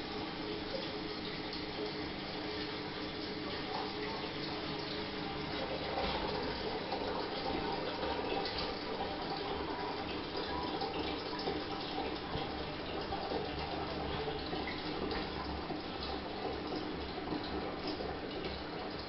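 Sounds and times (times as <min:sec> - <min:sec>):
toilet cistern refilling: 0:00.0 - 0:19.0.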